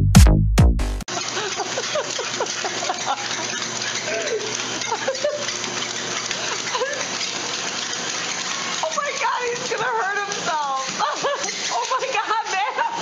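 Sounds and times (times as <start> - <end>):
treadmill hiss: 1.1 - 13.0.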